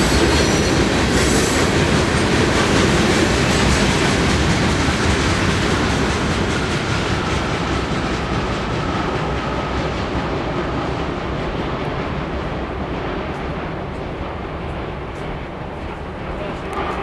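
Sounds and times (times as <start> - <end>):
train wheels clattering on rail: 0.0 - 17.0.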